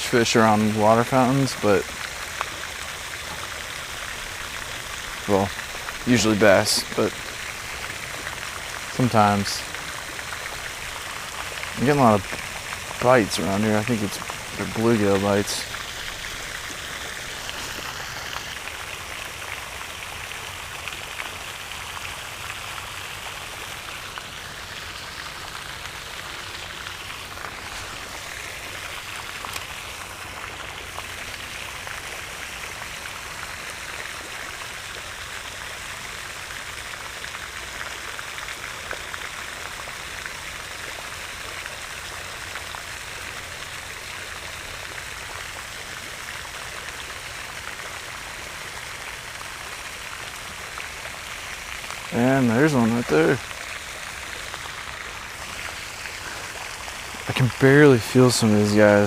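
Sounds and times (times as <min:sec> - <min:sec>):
pond fountain splashing: 0:00.0 - 0:59.0.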